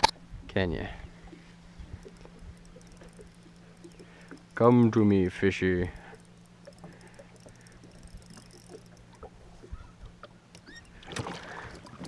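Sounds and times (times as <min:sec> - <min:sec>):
low steady hum: 0:00.0 - 0:12.0
fish splashing: 0:01.2 - 0:04.8, 0:06.0 - 0:12.0.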